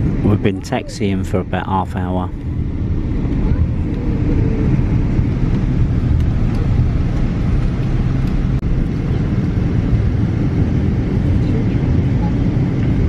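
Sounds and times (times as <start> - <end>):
airliner rolling on taxiway: 0.0 - 13.0
jet engines running at low power: 0.0 - 13.0.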